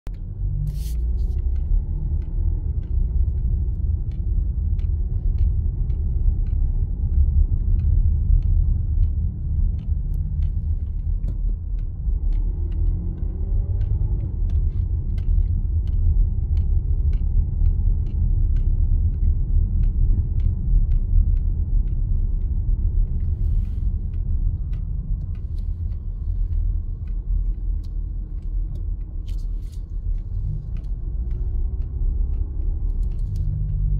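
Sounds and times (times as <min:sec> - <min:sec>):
car engine and tyres rumbling: 0:00.0 - 0:33.9
faint light ticks: 0:00.1 - 0:33.9.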